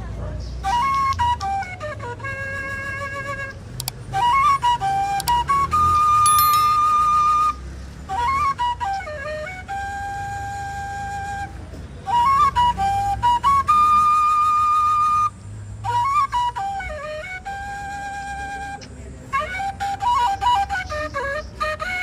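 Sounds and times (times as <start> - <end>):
flute slow solo melody: 0.8 - 22.0.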